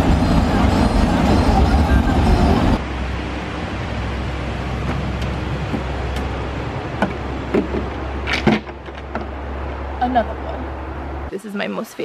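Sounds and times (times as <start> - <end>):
steady rushing noise: 0.0 - 11.3.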